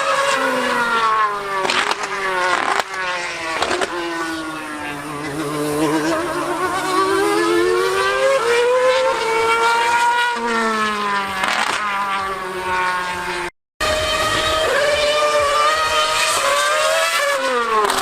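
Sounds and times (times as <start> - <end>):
racing car engine revving: 0.0 - 18.0.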